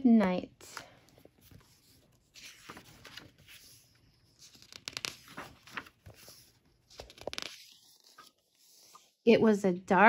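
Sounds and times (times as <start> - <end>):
book pages turning: 0.8 - 9.2.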